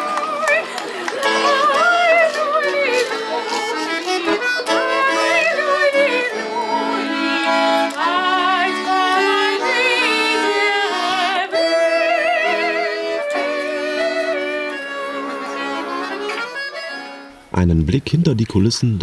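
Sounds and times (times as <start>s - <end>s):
accordion folk music: 0.0s - 19.0s.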